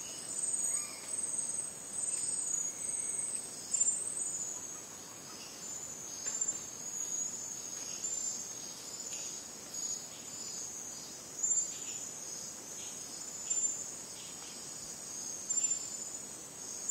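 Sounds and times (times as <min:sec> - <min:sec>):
insects trilling: 0:00.0 - 0:16.9.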